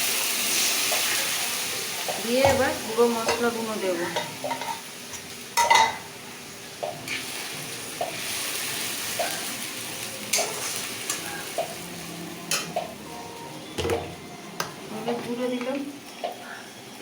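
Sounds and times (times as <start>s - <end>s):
masala sizzling in a pan: 0.0s - 14.2s.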